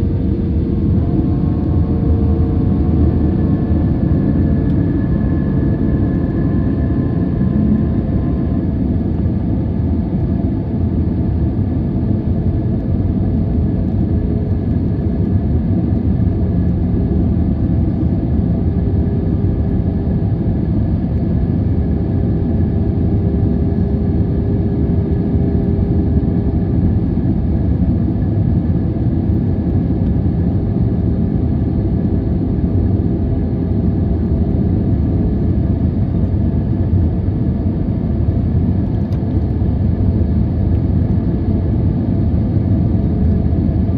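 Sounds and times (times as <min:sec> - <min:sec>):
faint engine whine: 0:00.0 - 0:43.9
jet engines rumbling: 0:00.0 - 0:43.9.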